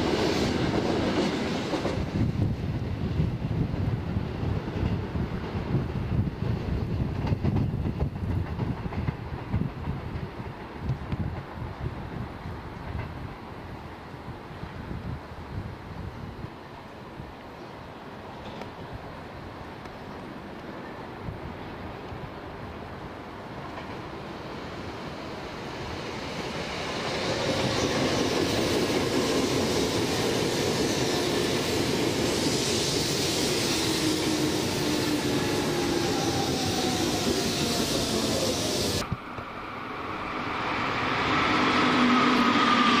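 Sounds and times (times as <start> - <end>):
train wheels rumbling on rails: 0.0 - 16.6, 18.2 - 43.0.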